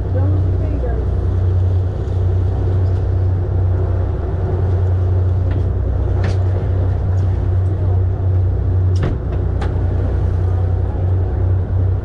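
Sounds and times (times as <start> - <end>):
boat engine drone: 0.0 - 12.0
water noise: 0.0 - 12.0.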